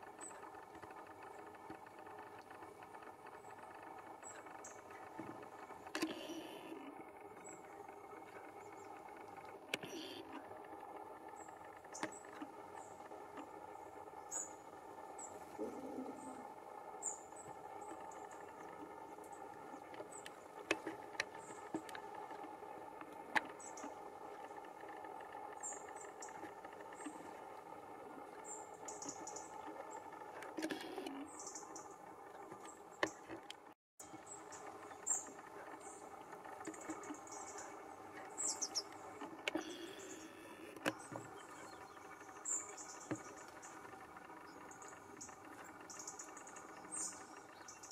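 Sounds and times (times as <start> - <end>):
low background hum: 0.0 - 47.9.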